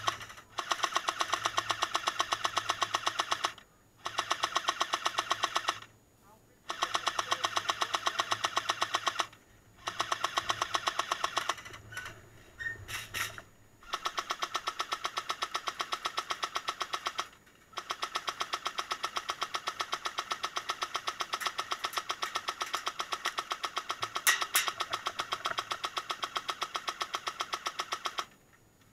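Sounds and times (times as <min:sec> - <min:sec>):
airsoft gun rapid firing: 0:00.0 - 0:05.9, 0:06.7 - 0:11.8, 0:13.8 - 0:28.3.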